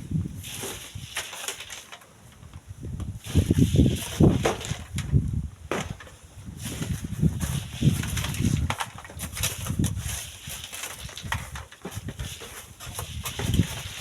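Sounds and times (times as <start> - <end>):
wind buffeting microphone: 0.0 - 1.1, 2.4 - 14.0.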